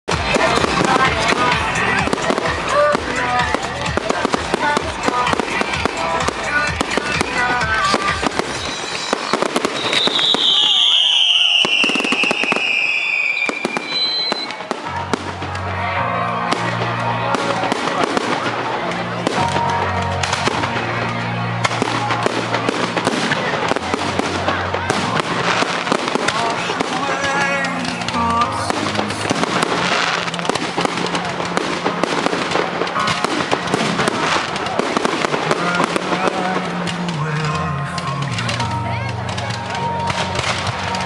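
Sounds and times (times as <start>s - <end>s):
sharp loud firework crack: 0.1s - 15.7s, 16.5s - 20.8s, 21.6s - 37.2s
fireworks bangs and crackling: 0.1s - 41.0s
music playing: 0.1s - 41.0s.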